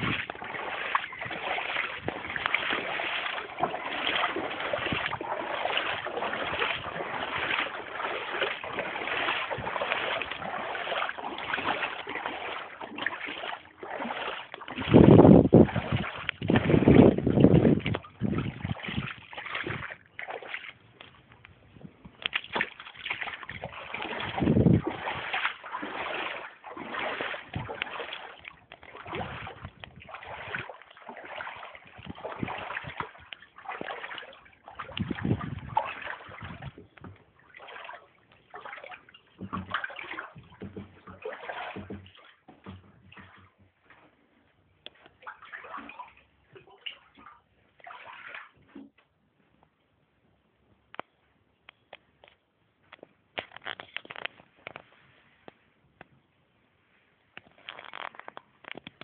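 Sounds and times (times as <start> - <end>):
water splashing and sloshing: 0.0 - 49.8, 50.8 - 59.0.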